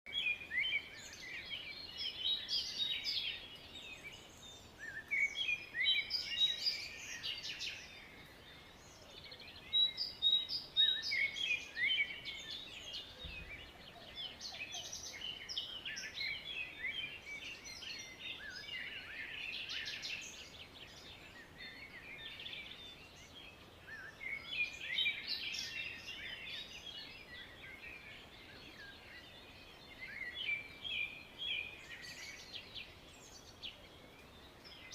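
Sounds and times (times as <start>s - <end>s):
birds singing chirps and trills: 0.1s - 34.9s
faint steady hiss: 0.1s - 34.9s.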